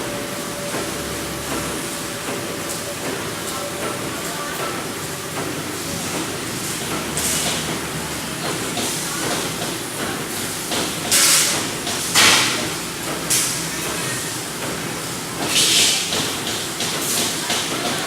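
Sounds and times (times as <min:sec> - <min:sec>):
welding machine running: 0:00.0 - 0:18.0.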